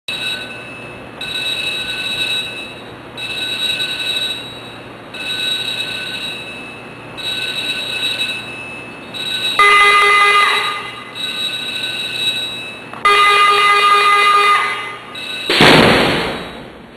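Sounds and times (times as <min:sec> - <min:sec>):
warning alarm beeps: 0:00.1 - 0:15.6.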